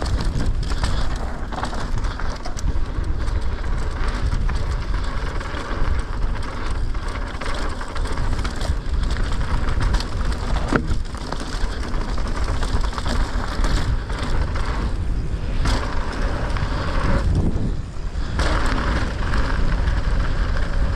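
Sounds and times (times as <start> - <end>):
bike chattering over bumps: 0.0 - 20.9
bike tyres rasping over dirt: 0.0 - 20.9
wind rumble on microphone: 0.0 - 20.9.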